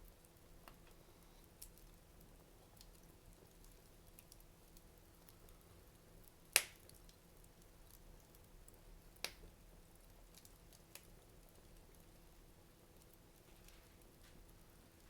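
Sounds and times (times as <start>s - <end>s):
fire crackling in fireplace: 0.0s - 15.0s
fire popping: 0.3s - 15.0s.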